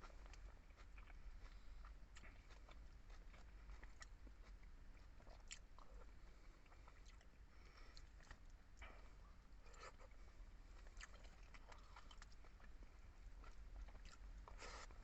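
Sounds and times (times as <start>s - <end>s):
chewing and mouth sounds: 0.0s - 15.0s.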